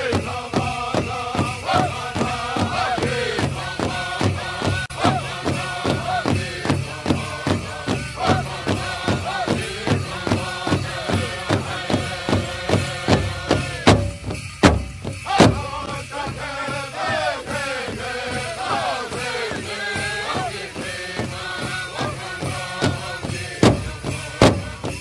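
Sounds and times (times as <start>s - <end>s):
voices chanting: 0.0s - 13.9s, 15.2s - 25.0s
loud drum strikes: 0.0s - 25.0s
steady drumbeat: 0.0s - 25.0s.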